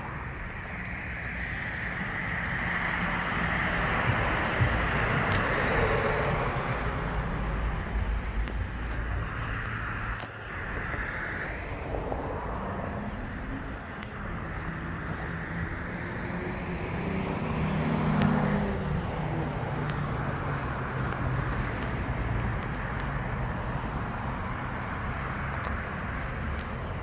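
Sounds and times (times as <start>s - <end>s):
vehicle engine hum passing: 0.0s - 27.0s.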